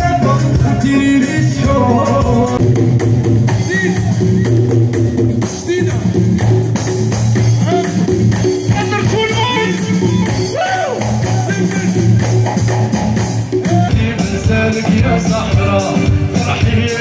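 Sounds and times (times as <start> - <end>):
drum kit beat: 0.0 - 17.0
keyboard melody: 0.0 - 17.0.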